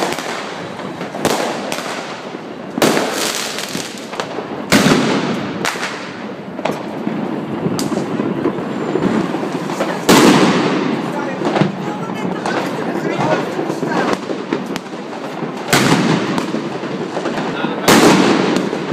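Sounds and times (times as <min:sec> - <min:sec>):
firecrackers crackling: 0:00.0 - 0:18.9
sharp firework reports: 0:00.0 - 0:18.9.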